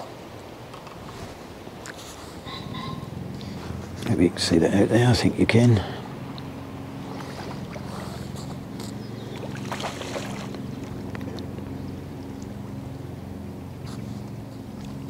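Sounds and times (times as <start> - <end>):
faint rustles: 0.0 - 15.0
low motor hum: 0.0 - 15.0.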